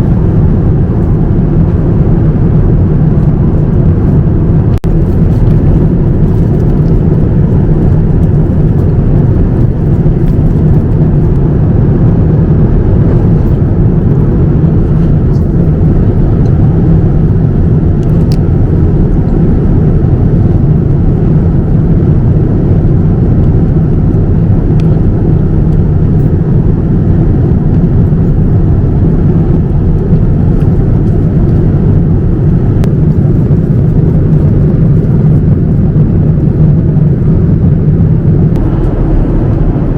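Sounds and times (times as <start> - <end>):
airliner cabin engine rush: 0.0 - 39.9.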